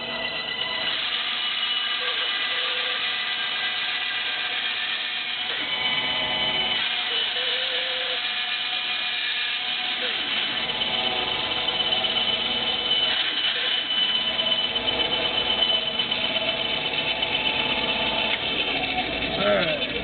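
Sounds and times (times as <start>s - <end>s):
power tool running: 0.0s - 20.0s
thin whine: 0.0s - 20.0s.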